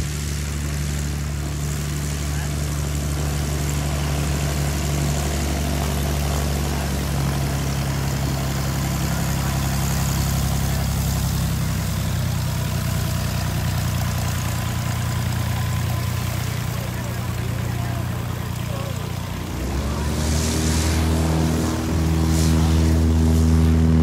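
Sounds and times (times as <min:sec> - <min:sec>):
propeller airplane engine droning: 0:00.0 - 0:24.0.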